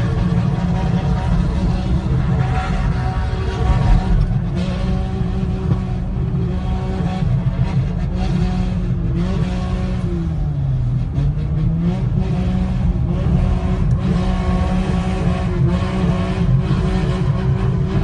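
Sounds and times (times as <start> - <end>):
car drifting on tarmac: 0.0 - 18.0
car engine at high revs: 0.0 - 18.0.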